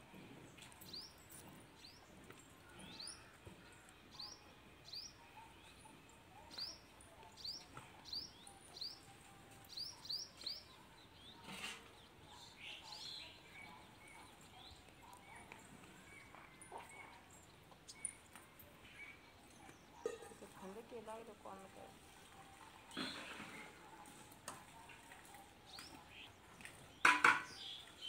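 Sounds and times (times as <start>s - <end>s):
faint outdoor background: 0.0s - 28.0s.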